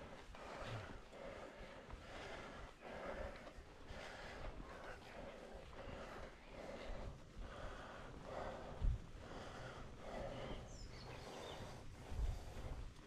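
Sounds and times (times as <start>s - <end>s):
heavy rhythmic breathing: 0.0s - 13.0s
wind rumbling on microphone: 0.0s - 13.0s.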